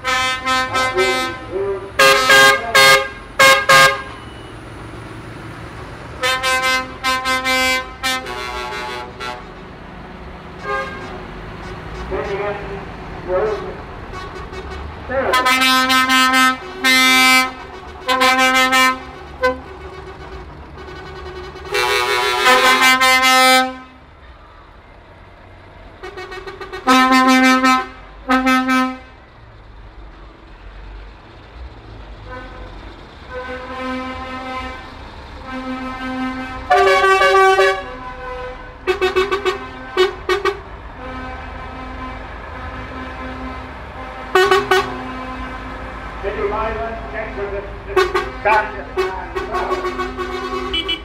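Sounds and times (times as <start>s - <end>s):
lorry horn blasts: 0.0s - 4.5s, 6.2s - 9.5s, 10.6s - 12.7s, 13.5s - 24.0s, 26.0s - 29.2s, 33.3s - 51.0s
low diesel engine rumble: 0.0s - 51.0s.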